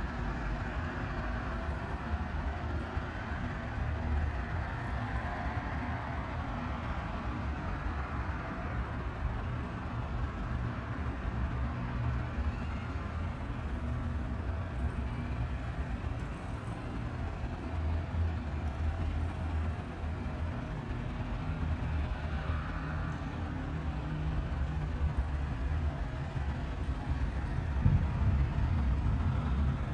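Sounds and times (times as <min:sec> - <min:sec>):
boat engine drone: 0:00.0 - 0:29.9.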